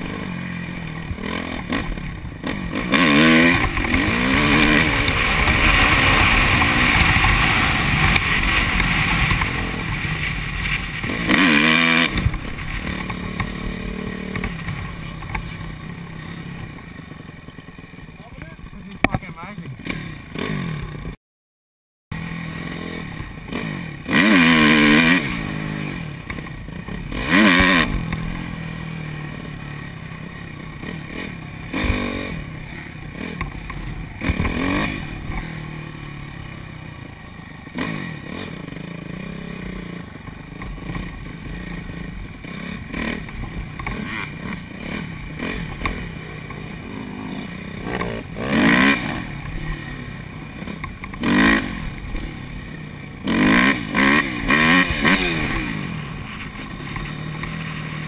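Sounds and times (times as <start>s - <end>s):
dirt bike engine revving: 0.0s - 21.2s, 22.2s - 58.0s.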